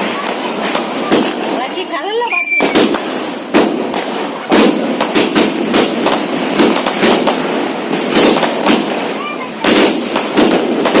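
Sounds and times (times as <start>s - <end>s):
firework bangs: 0.0s - 11.0s
firework crackle: 0.0s - 11.0s.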